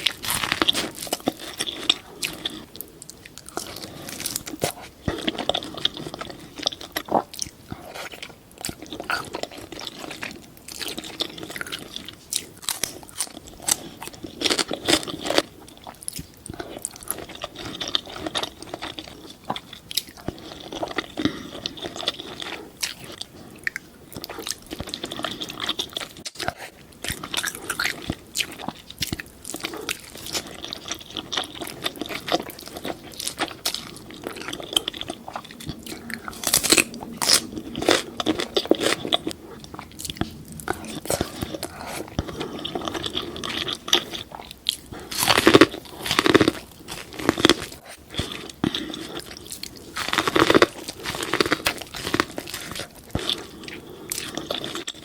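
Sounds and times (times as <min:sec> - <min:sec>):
person crunching and chewing food: 0:00.0 - 0:55.0.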